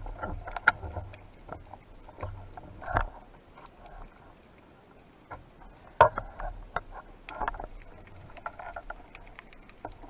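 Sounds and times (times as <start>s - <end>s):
underwater clicks and knocks: 0.0s - 4.2s, 5.3s - 10.0s
underwater scraping: 0.0s - 4.5s, 5.6s - 10.0s.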